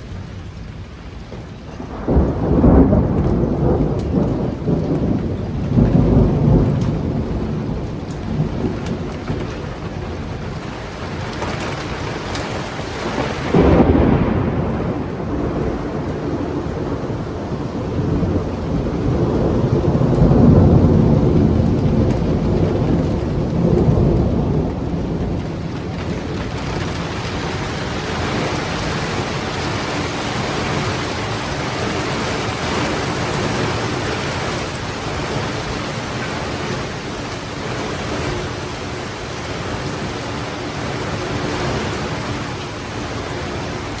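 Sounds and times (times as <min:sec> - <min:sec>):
heavy rain: 0:00.0 - 0:44.0
thunder rolling: 0:00.0 - 0:44.0.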